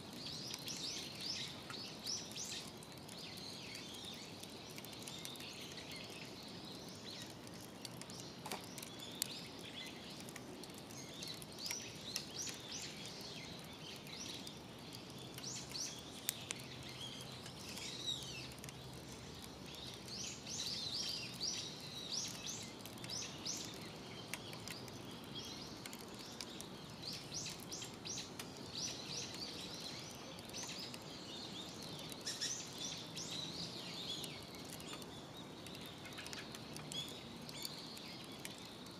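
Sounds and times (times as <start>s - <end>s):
outdoor background hiss: 0.0s - 38.9s
small birds chirping: 0.0s - 38.9s
wood fire crackling: 0.0s - 38.9s.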